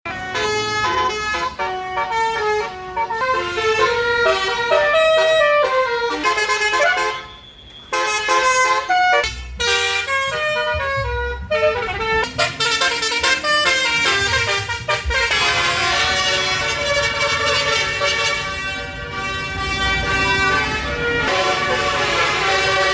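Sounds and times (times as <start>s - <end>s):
bus horns playing melody: 0.1s - 22.9s.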